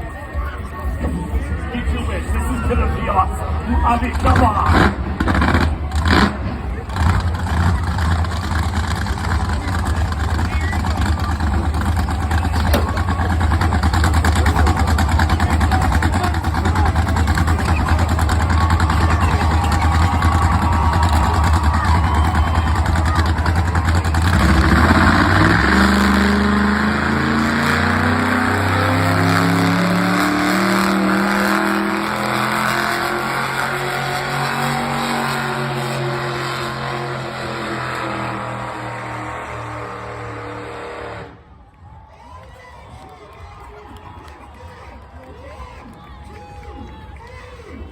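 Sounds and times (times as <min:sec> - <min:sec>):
truck engine at full throttle: 0:00.0 - 0:41.6.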